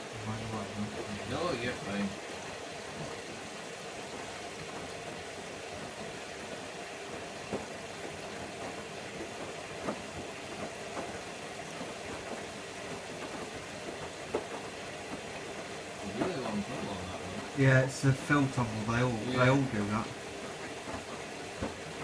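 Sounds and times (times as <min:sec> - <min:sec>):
washing machine drum hum: 0:00.0 - 0:22.0.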